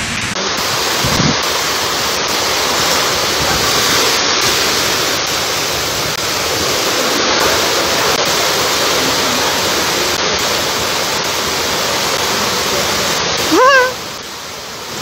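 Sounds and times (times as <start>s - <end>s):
floodwater rushing: 0.0s - 15.0s
torrential rain: 0.0s - 15.0s.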